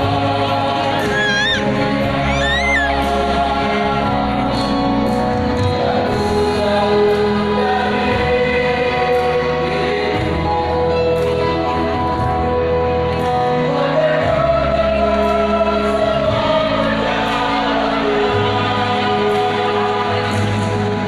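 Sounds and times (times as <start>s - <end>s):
mixed choir singing in harmony: 0.0s - 21.0s.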